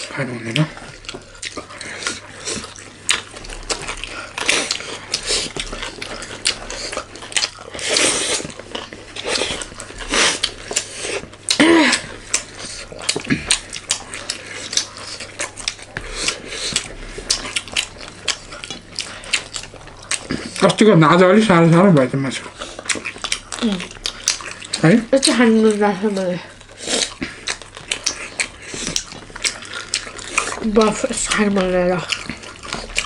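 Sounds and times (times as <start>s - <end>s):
chewing and mouth noises: 0.0s - 33.0s.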